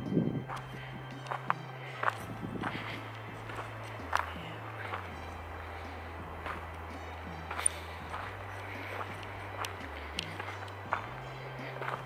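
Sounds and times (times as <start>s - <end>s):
footsteps on gravel: 0.0s - 12.0s
steady low hum: 0.0s - 12.0s.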